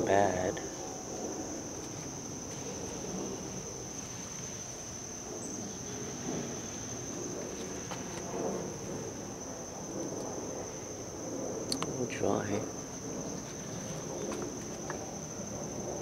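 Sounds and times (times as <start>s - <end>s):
crickets chirring: 0.0s - 16.0s
low background rumble: 0.0s - 16.0s.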